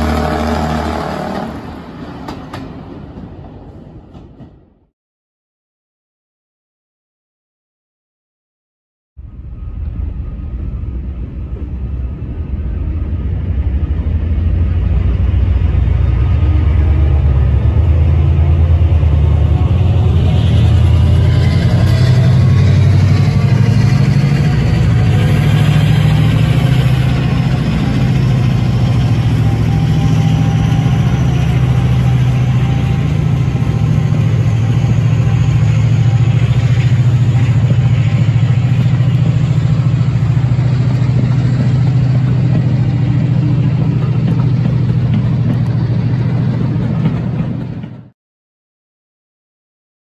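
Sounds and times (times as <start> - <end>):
diesel locomotives working hard: 0.0 - 4.8, 9.2 - 48.1.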